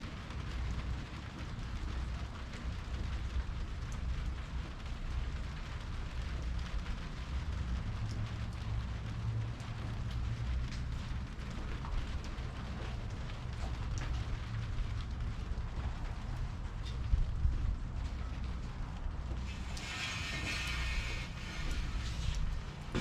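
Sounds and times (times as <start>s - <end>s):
rain falling: 0.0s - 23.0s
steady low rumble: 0.0s - 23.0s.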